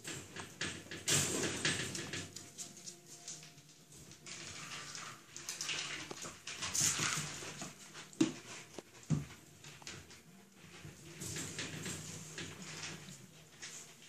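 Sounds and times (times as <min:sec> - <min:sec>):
puppies scuffling: 0:00.0 - 0:14.0.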